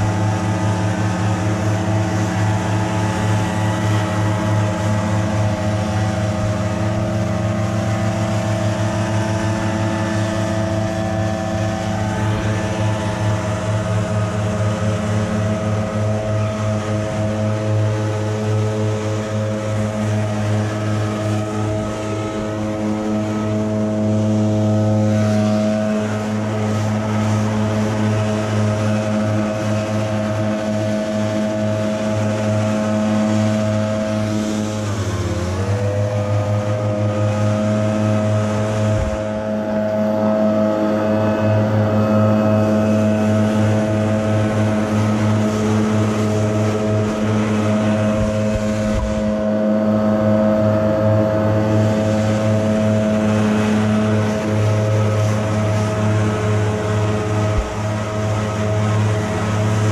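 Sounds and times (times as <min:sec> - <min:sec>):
leaf blower engines droning: 0:00.0 - 0:59.9.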